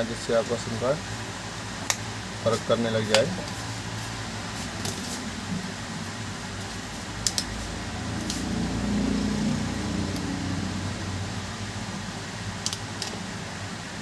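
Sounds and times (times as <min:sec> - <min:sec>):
mechanical fan hum: 0:00.0 - 0:14.0.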